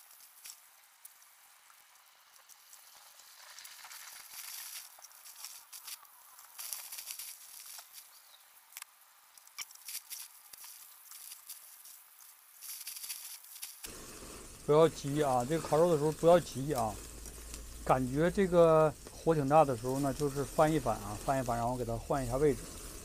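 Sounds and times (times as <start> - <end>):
meat sizzling and crackling on grill: 0.0 - 23.0.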